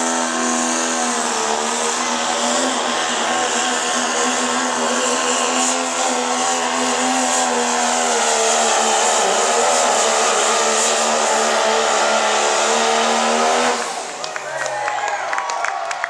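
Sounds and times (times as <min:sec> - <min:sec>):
diesel truck engine under load: 0:00.0 - 0:14.5.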